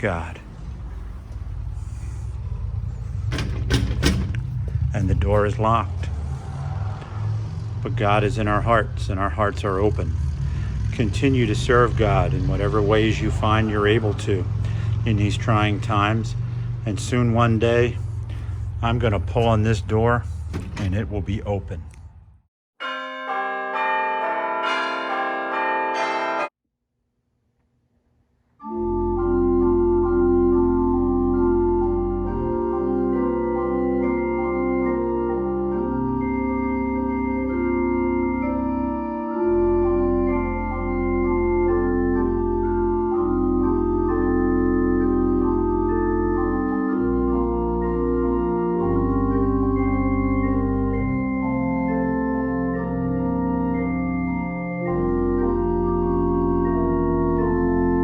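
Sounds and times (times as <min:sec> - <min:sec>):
deep organ pedal bass: 0:00.0 - 0:06.5, 0:07.7 - 0:22.0, 0:28.6 - 0:58.0
organ chords: 0:00.0 - 0:22.0, 0:22.8 - 0:26.5, 0:28.6 - 0:58.0.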